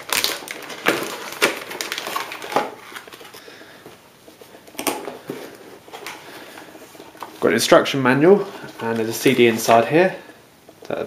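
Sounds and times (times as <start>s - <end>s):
cardboard packaging rustling: 0.0s - 10.4s
plastic bag crinkling: 0.0s - 10.4s.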